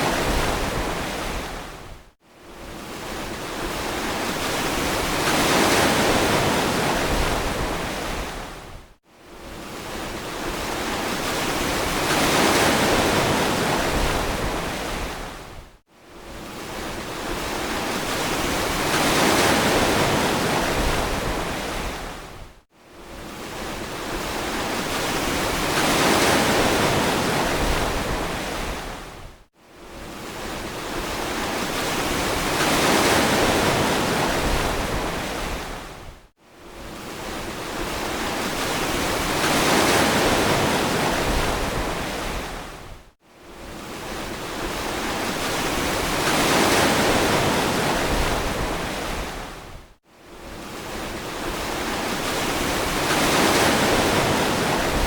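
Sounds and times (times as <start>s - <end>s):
ocean waves breaking on beach: 0.0s - 8.8s, 9.4s - 15.6s, 16.2s - 55.0s.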